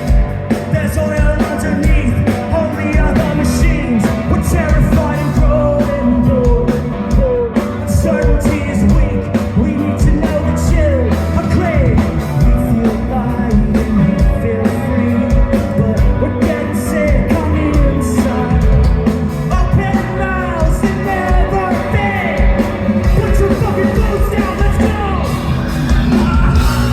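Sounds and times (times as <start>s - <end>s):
drums: 0.0s - 26.9s
rock band playing live: 0.0s - 26.9s
person singing: 0.6s - 26.9s.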